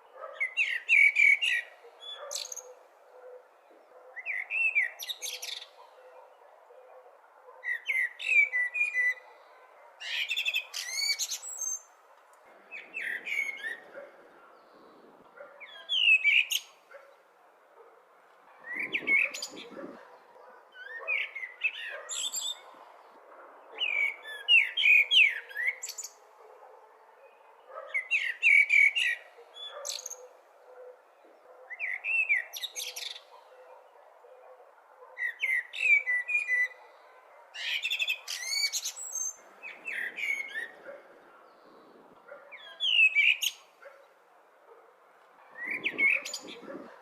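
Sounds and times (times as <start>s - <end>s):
blackbird singing: 0.0s - 12.0s, 12.7s - 14.8s, 15.4s - 17.2s, 18.6s - 22.8s, 23.6s - 26.2s, 27.2s - 34.5s, 35.1s - 44.1s, 45.5s - 47.0s.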